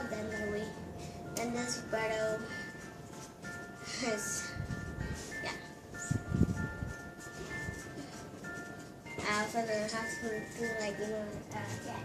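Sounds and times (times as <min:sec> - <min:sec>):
bell-like chime music: 0:00.0 - 0:12.0.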